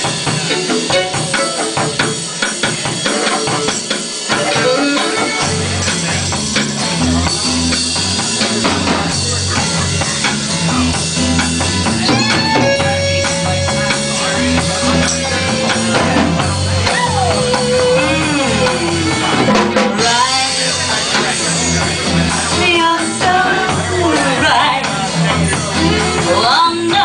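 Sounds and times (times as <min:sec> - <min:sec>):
bass line: 0:00.0 - 0:27.0
drum kit: 0:00.0 - 0:27.0.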